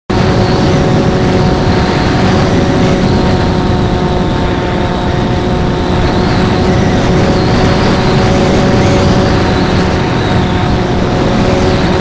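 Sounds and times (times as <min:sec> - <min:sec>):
electric motor and propeller whine: 0:00.1 - 0:12.0
wind rumble on microphone: 0:00.1 - 0:12.0.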